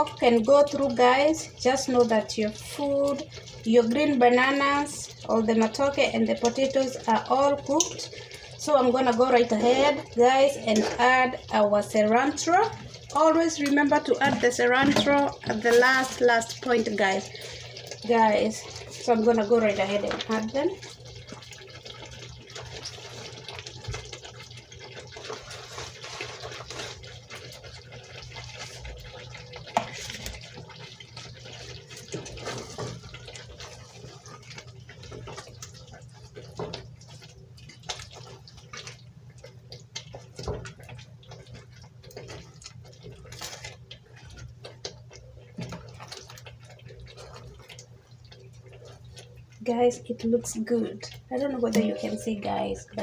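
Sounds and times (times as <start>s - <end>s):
stew simmering and bubbling: 0.0s - 53.0s.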